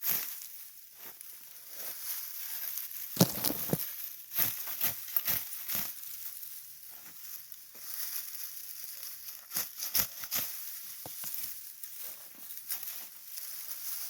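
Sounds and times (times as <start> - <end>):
dry rustling and crunching: 0.0 - 14.0.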